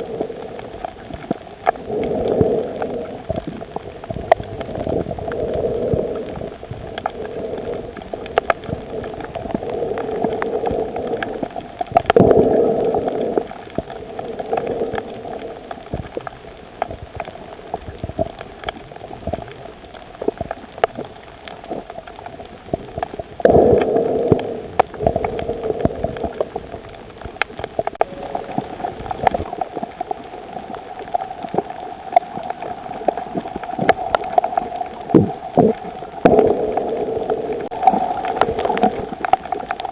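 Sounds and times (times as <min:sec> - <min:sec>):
bubbling gurgling water: 0:00.0 - 0:39.9
muffled underwater water noise: 0:00.0 - 0:39.9
sharp clicks and crackles: 0:00.0 - 0:39.9.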